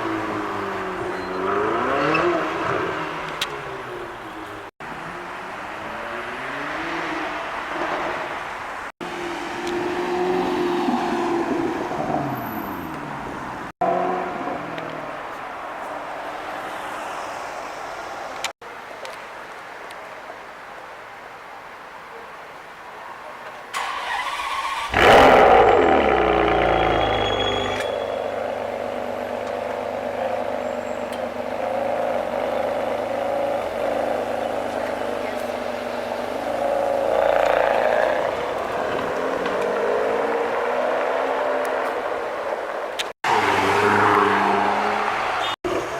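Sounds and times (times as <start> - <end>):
sports car engines revving: 0.0 - 15.4, 24.4 - 45.9.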